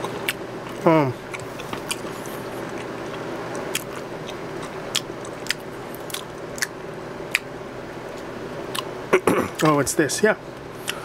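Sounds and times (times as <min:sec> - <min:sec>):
person chewing food: 0:00.0 - 0:08.9
steady low hum: 0:00.0 - 0:11.0.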